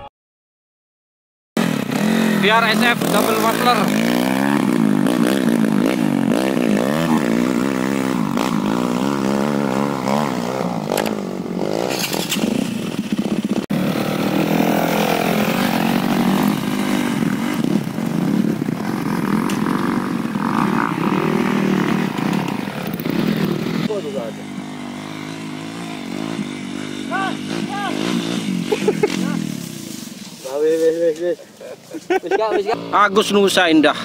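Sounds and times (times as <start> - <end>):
faint dirt bike engines revving: 1.6 - 34.0
trail bike engine revving: 1.6 - 34.0.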